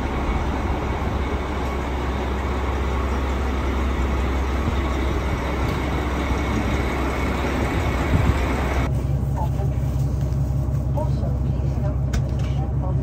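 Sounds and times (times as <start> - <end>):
train idling rumble and hum: 0.0 - 13.0.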